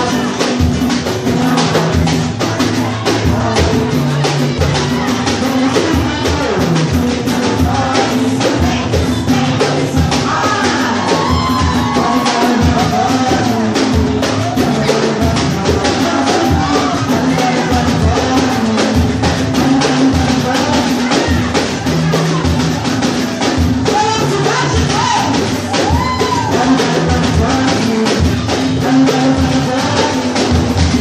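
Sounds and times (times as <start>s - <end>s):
samba percussion drumming: 0.0s - 31.0s
voices singing: 0.0s - 31.0s.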